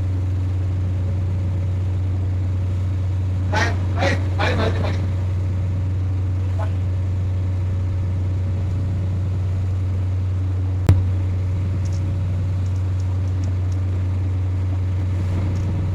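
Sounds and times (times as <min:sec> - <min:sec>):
low engine hum: 0:00.0 - 0:15.9.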